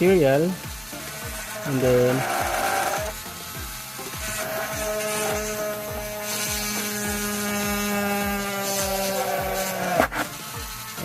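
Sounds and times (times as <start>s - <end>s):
rotary tool motor whine: 0.0s - 11.0s.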